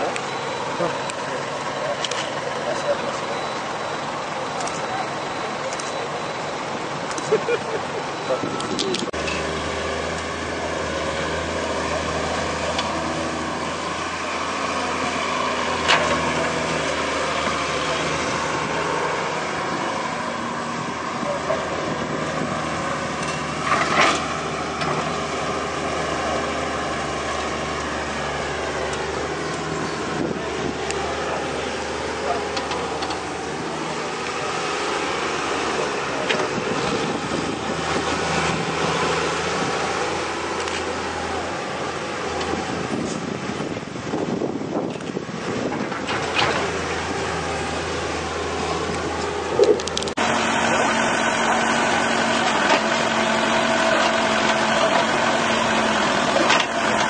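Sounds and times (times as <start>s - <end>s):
diesel excavator engine running: 0.0s - 57.0s.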